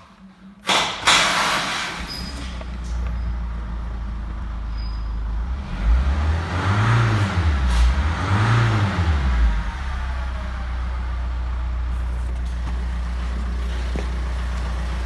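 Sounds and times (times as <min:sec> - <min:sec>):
diesel engine idling and revving: 0:01.1 - 0:15.0.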